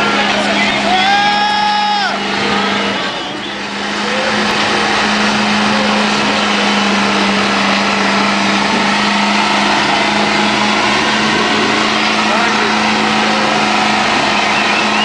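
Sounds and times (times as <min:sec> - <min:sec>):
tires spinning on pavement: 0:00.0 - 0:15.0
truck engine revving high: 0:00.0 - 0:15.0.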